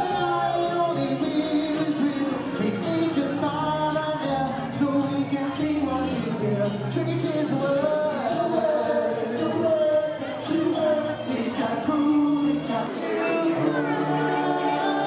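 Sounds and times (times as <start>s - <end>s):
male vocal group singing harmony: 0.0s - 15.0s.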